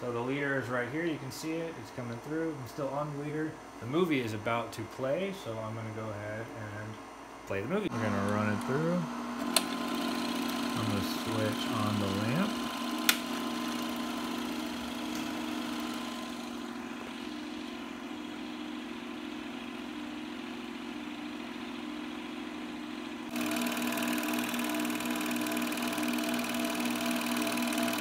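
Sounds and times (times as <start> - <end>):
film projector humming: 0.0 - 28.0.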